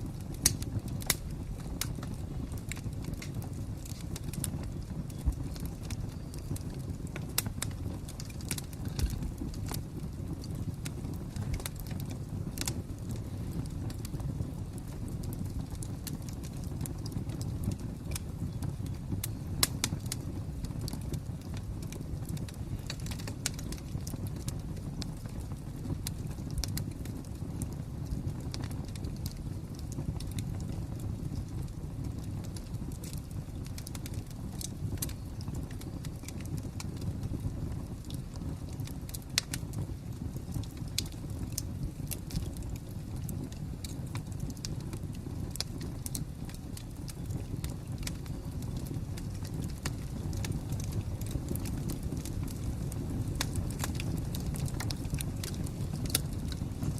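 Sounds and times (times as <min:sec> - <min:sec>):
low rumble of flames: 0:00.0 - 0:56.9
wood fire pops and snaps: 0:00.0 - 0:56.9.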